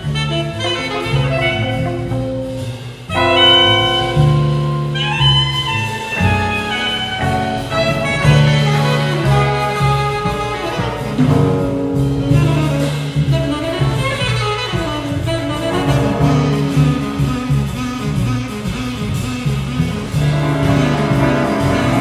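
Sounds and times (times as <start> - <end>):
tenor saxophone melody: 0.0 - 2.2, 3.1 - 11.3, 12.2 - 22.0
double bass: 0.0 - 22.0
drums: 0.0 - 22.0.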